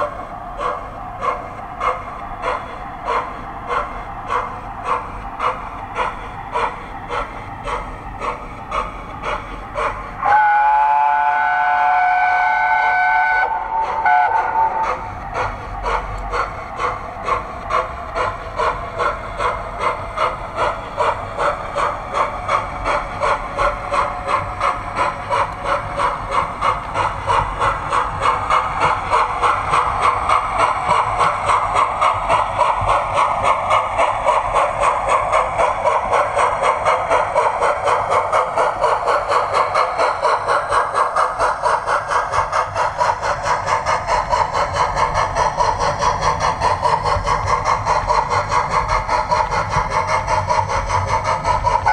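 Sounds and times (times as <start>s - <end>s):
model steam locomotive chuffing: 0.0s - 51.9s.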